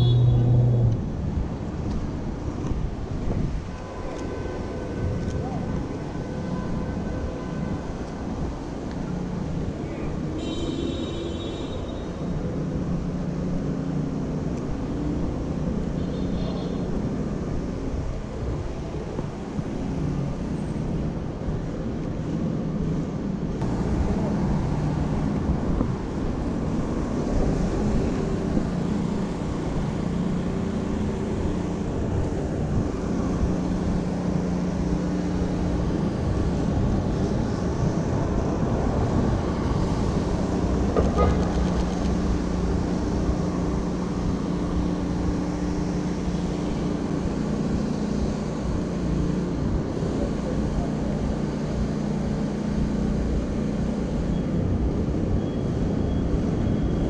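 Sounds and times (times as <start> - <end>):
city traffic rumble: 0.0 - 57.0
engine droning hum: 3.8 - 57.0.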